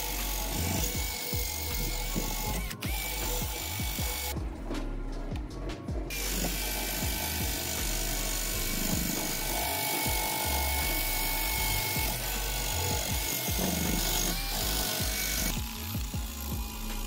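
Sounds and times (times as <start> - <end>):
drill with wire brush scrubbing metal: 0.0 - 4.4, 6.1 - 17.0
background music: 0.0 - 17.0.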